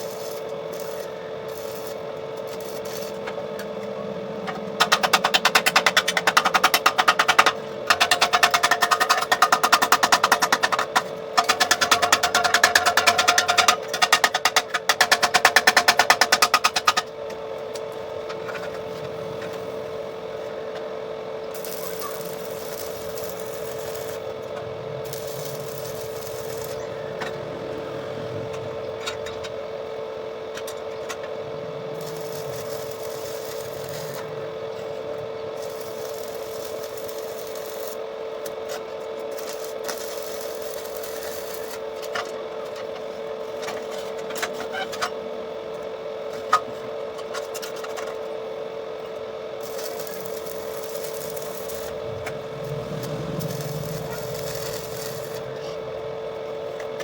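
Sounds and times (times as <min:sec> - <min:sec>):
arc welding crackle: 0:00.0 - 0:57.0.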